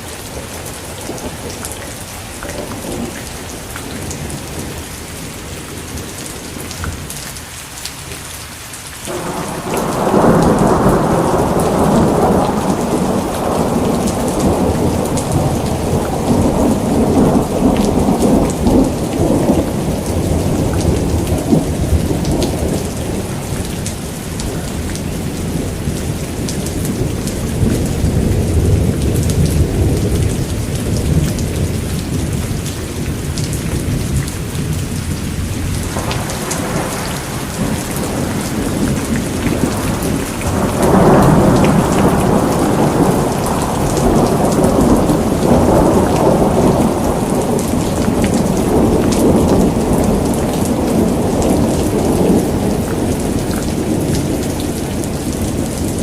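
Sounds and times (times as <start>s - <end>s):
thunder rumbling: 0.0s - 7.2s, 9.1s - 56.0s
heavy rain pouring: 0.0s - 56.0s.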